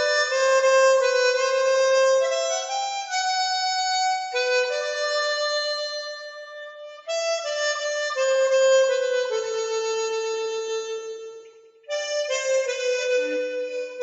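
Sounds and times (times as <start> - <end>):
harmonica playing slow melody: 0.0 - 14.0.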